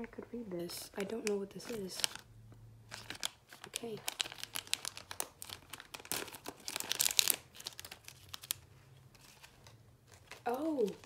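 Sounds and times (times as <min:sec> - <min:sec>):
plastic packaging crinkling: 0:00.8 - 0:02.3, 0:02.9 - 0:11.0.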